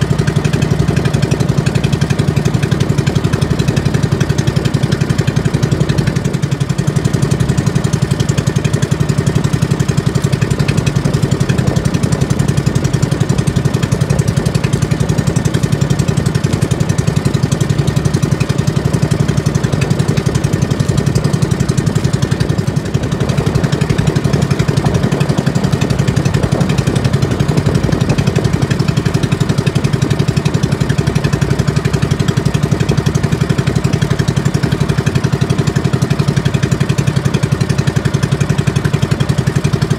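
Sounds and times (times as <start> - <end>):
boat engine pulsing: 0.0 - 39.9.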